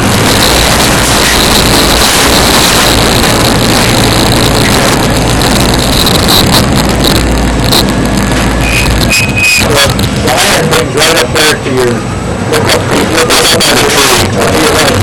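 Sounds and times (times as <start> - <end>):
distorted engine rumble: 0.0 - 15.0
microphone noise: 0.0 - 15.0.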